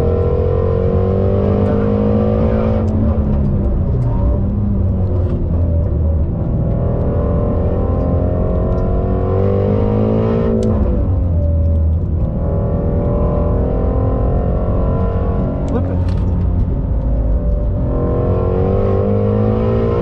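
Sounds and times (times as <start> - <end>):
car engine revving from inside: 0.0 - 20.0.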